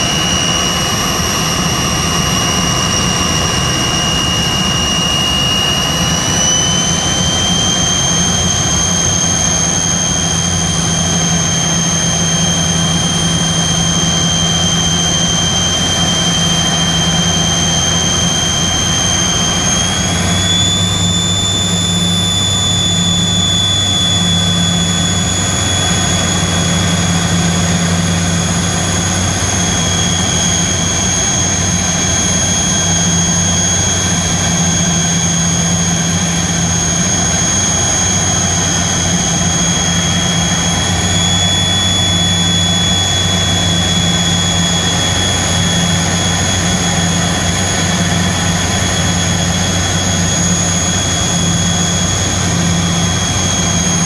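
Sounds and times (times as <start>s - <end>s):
airliner cabin engine rush: 0.0s - 54.0s
high fan whine: 0.0s - 54.0s.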